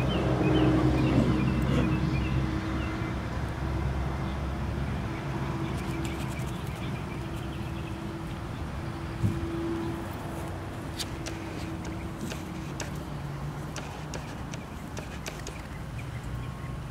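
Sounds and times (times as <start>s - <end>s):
birds chirping: 0.0s - 3.2s, 5.1s - 10.1s, 10.8s - 16.9s.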